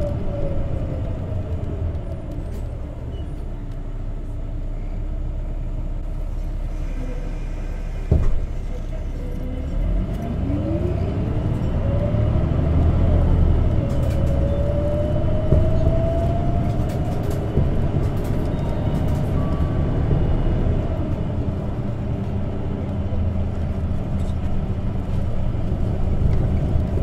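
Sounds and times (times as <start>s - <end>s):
bus whine rising in pitch: 0.0s - 26.9s
bus running noise: 0.0s - 27.0s.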